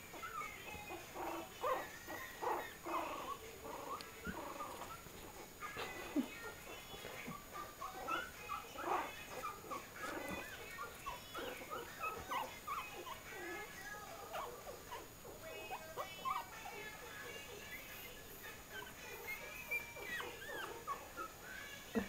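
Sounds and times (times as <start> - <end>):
puppies whimpering: 0.0 - 22.0.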